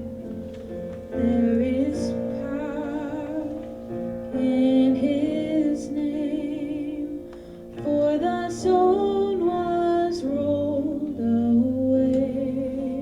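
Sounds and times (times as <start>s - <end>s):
woman singing with vibrato: 1.1s - 13.0s.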